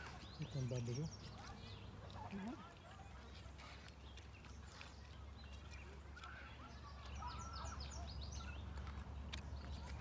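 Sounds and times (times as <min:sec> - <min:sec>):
bird chirps: 0:00.0 - 0:10.0.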